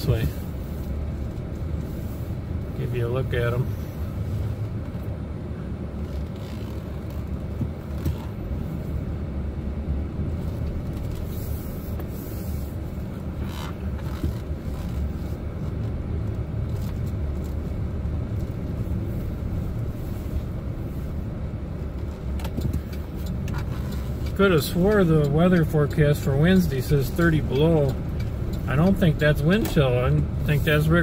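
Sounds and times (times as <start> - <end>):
pickup engine and tyres rumbling: 0.0 - 31.0.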